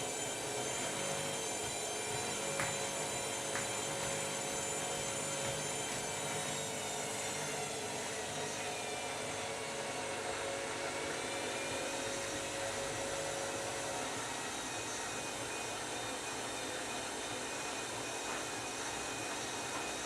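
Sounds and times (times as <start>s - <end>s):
high-pitched motor whine: 0.0s - 20.0s
washing machine spinning: 0.0s - 20.0s.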